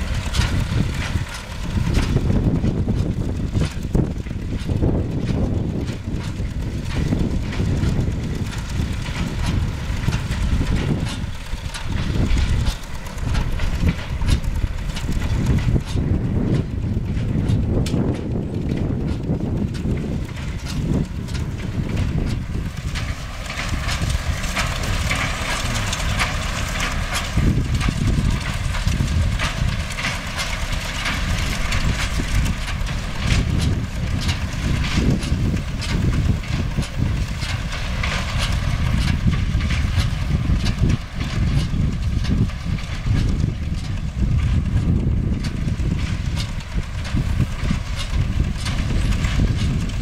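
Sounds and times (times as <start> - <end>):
hay baler clacking and knocking: 0.0 - 50.0
tractor diesel engine running: 0.0 - 50.0.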